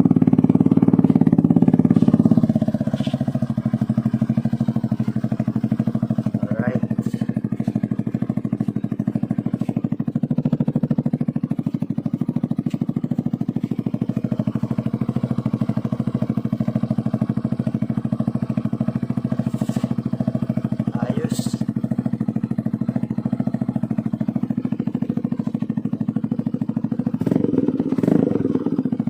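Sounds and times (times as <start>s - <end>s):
scooter engine idling: 0.0s - 29.0s.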